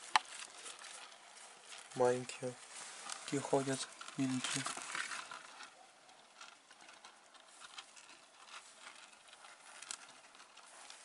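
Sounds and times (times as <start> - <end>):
mice scrabbling on container: 0.0 - 11.0.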